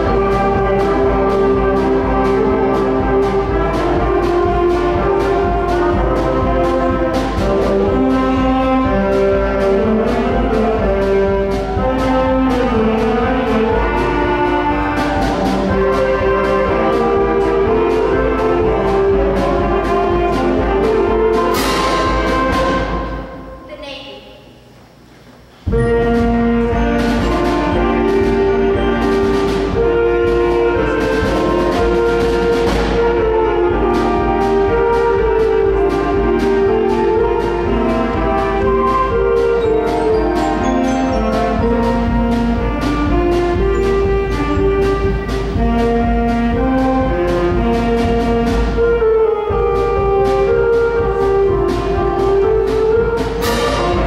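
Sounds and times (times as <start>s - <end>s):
bass drum: 0.0s - 24.0s, 25.6s - 54.0s
concert band playing a march: 0.0s - 24.0s, 25.6s - 54.0s.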